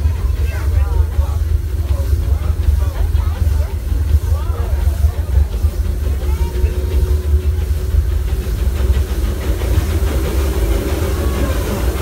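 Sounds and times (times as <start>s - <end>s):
steam train rumbling on track: 0.0s - 12.0s.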